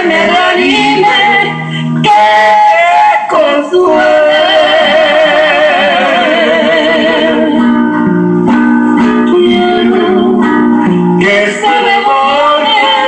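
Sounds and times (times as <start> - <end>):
acoustic guitar melody: 0.0 - 13.0.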